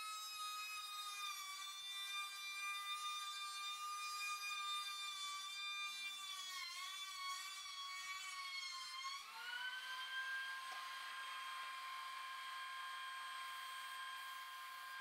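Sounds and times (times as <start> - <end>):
thickness planer motor whine: 0.0 - 15.0.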